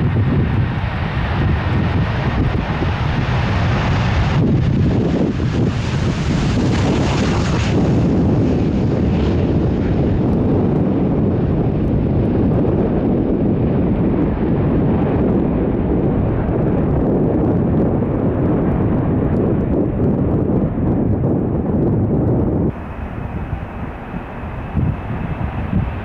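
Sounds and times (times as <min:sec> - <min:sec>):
jet engines rumbling: 0:00.0 - 0:26.0
wind buffeting microphone: 0:00.0 - 0:26.0.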